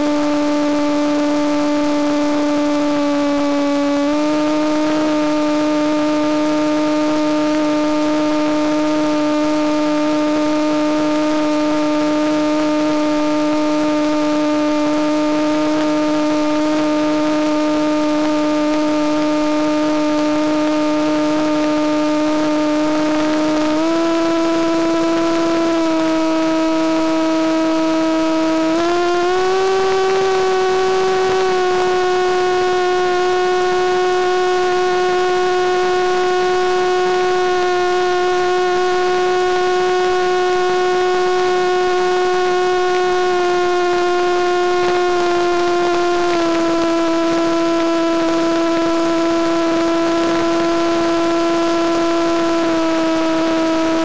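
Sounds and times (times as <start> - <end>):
model plane motor whining: 0.0 - 54.0.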